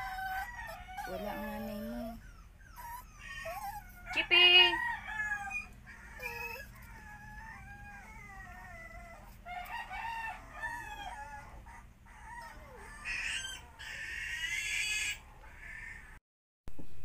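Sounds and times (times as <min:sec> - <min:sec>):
high-pitched animal calls: 0:00.0 - 0:09.4, 0:10.6 - 0:16.2.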